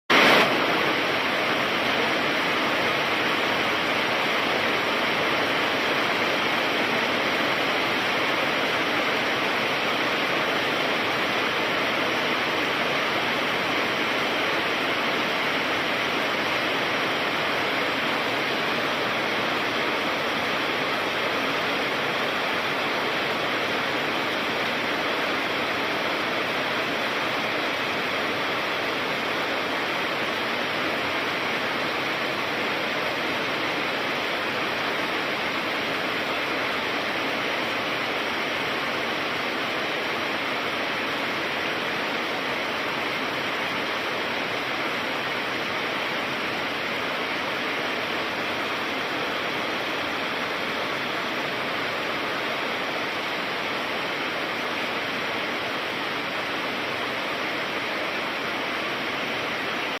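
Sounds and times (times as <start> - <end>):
heavy rain pouring: 0.1 - 60.0.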